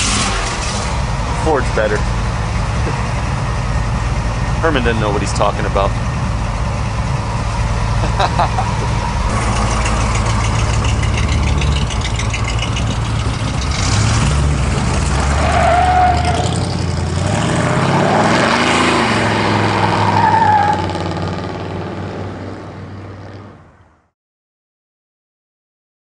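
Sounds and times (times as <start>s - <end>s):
pickup truck engines revving: 0.0s - 23.6s.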